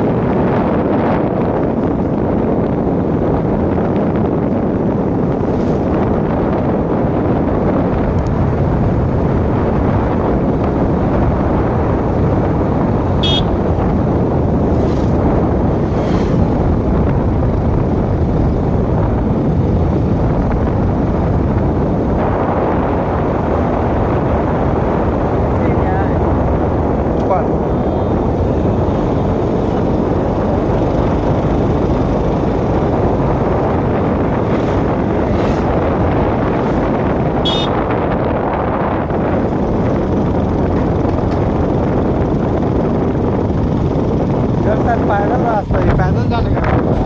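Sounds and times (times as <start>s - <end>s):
vehicle road noise: 0.0s - 47.0s
wind buffeting microphone: 0.0s - 47.0s.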